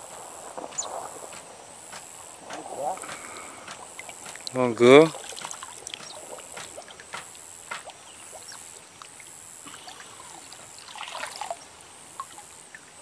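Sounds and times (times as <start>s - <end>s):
steady high hiss: 0.0s - 13.0s
water lapping and trickling: 0.0s - 13.0s.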